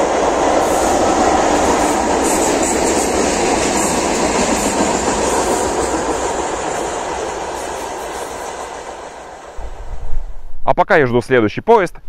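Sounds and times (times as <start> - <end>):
freight train wheels rumbling: 0.0 - 10.3.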